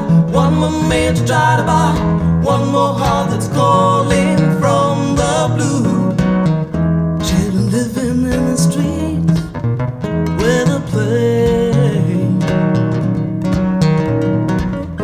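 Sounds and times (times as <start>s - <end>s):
song with guitar and bass: 0.0s - 15.0s.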